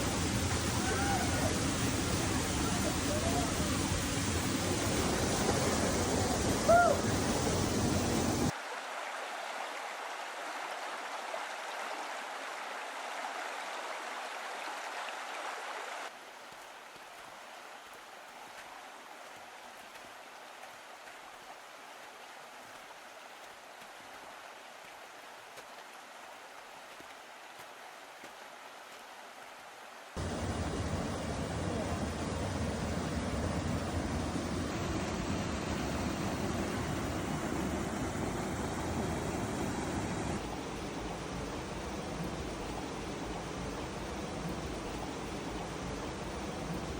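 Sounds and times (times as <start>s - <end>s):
rushing creek water: 0.0s - 46.9s.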